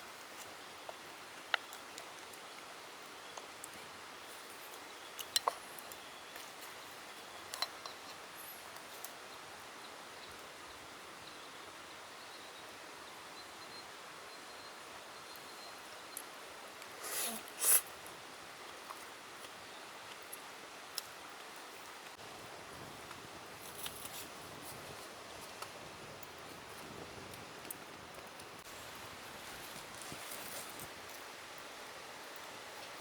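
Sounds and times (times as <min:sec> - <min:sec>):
soft steady hiss: 0:00.0 - 0:33.0.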